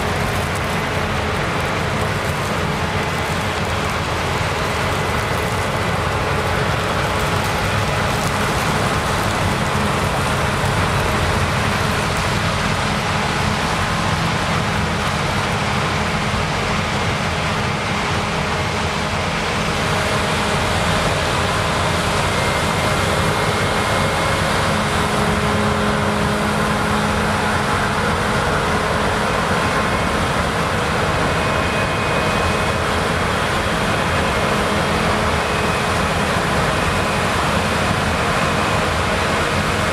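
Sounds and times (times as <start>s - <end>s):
combine harvester roaring: 0.0s - 39.9s.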